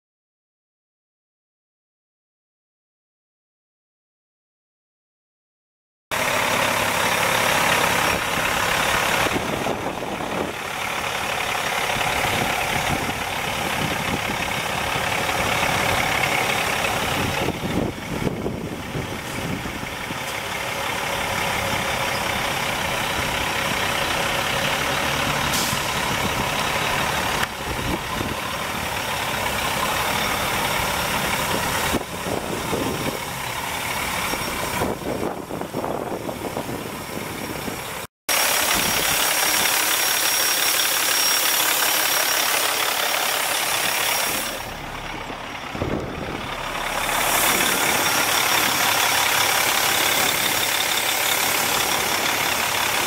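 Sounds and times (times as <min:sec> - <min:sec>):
diesel truck engine running slowly: 0:06.2 - 0:53.0.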